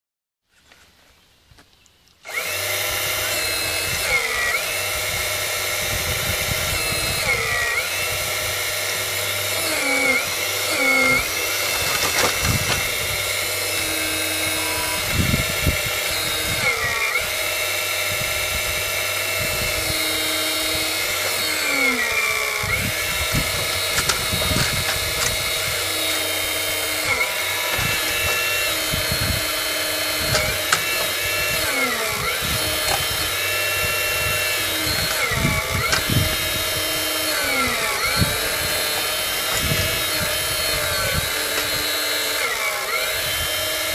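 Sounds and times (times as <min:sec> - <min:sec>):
hydraulic pump whining: 0:02.2 - 0:43.9.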